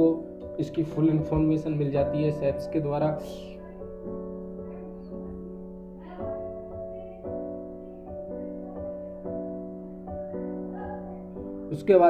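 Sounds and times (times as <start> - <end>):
soft piano background music: 0.0 - 12.0.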